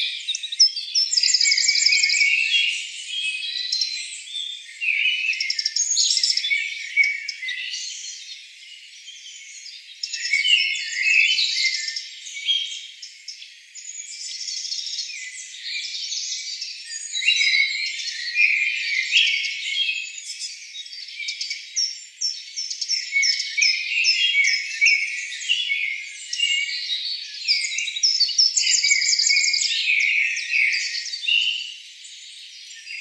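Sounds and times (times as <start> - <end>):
forest birds chirping: 0.0 - 33.0.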